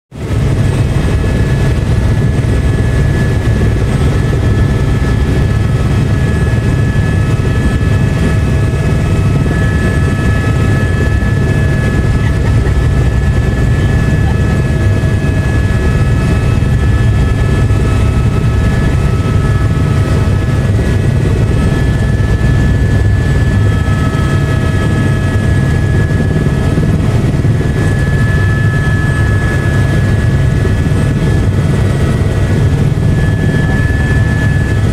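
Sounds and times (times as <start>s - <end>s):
helicopter rotor thrum: 0.2s - 34.9s.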